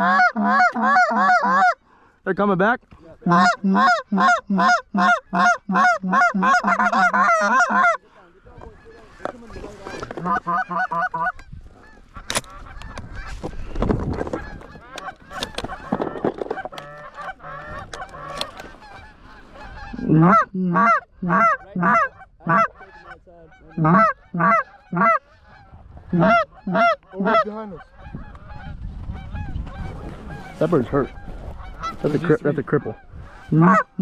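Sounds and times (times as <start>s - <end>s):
geese honking and cackling: 0.0s - 1.8s, 3.2s - 34.0s
loud close goose honks: 0.0s - 1.8s, 3.2s - 8.0s, 8.6s - 13.3s, 14.3s - 34.0s.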